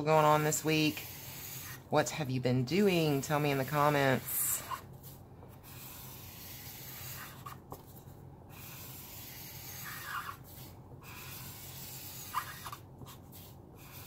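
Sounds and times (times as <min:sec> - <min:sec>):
marker scratching on paper: 0:00.1 - 0:14.0.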